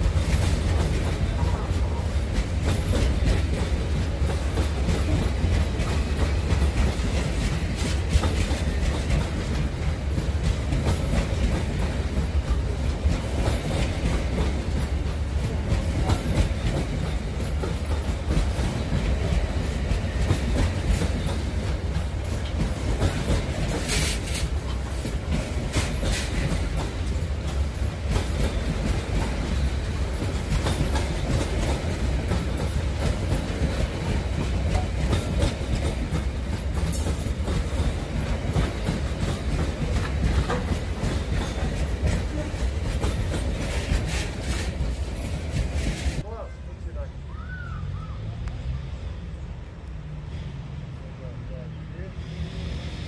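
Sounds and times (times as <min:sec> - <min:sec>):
wheels clacking over rail joints: 0:00.0 - 0:46.3
freight train rumble: 0:00.0 - 0:53.0.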